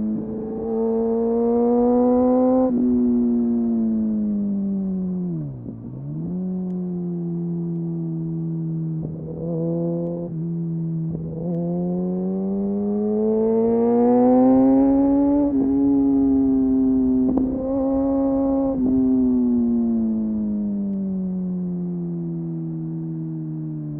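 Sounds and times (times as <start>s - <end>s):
motorcycle engine revving: 0.0s - 23.2s.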